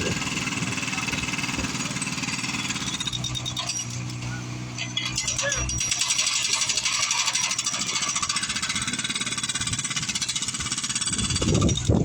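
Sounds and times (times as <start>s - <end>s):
jackhammer rattling: 0.0s - 4.1s, 4.8s - 12.0s.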